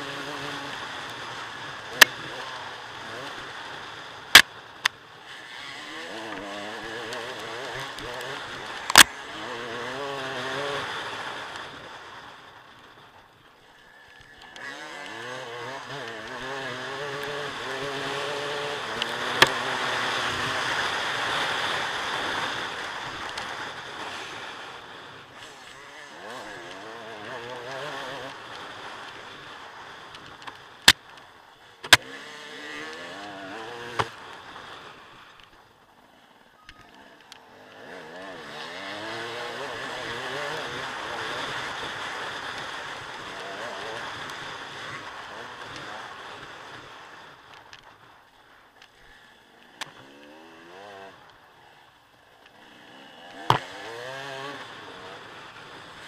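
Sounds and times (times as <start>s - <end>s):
dirt bike engine revving: 0.0s - 12.9s, 13.6s - 56.0s.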